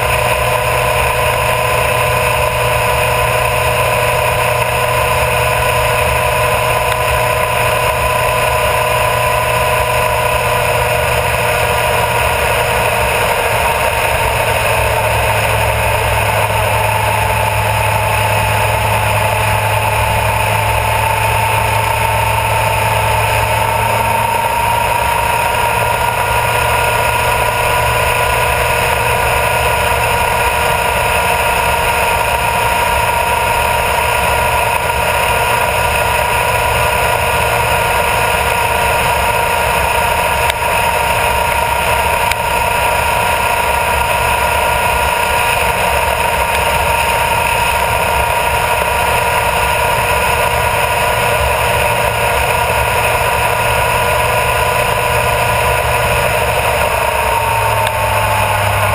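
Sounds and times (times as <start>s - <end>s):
motorcycle engine cruising: 0.0s - 58.9s
wind and tyre noise: 0.0s - 58.9s.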